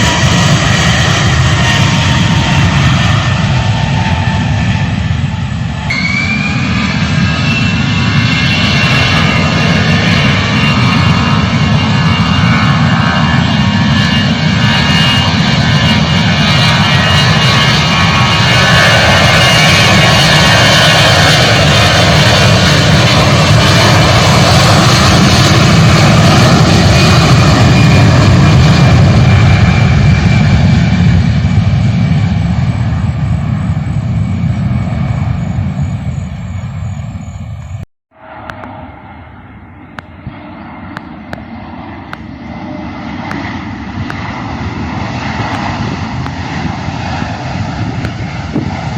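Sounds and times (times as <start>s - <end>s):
jet engines rumbling and whining: 0.0s - 48.9s.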